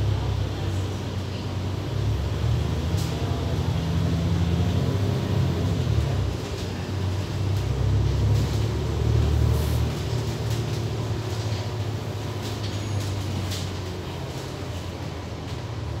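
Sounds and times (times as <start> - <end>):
bus engine hum: 0.0 - 16.0.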